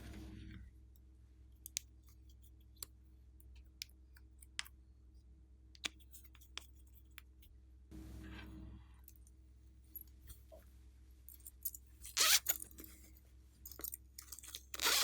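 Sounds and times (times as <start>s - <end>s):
low steady hum: 0.0s - 14.8s.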